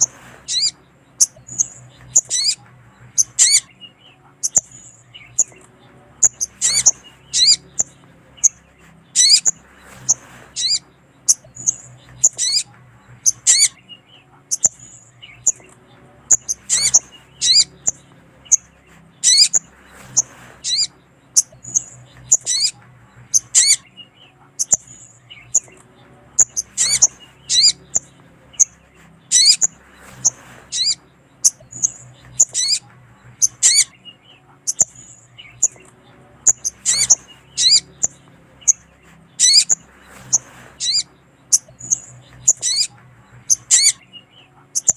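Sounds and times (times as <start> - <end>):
bird sharp high chirps: 0.0 - 44.9.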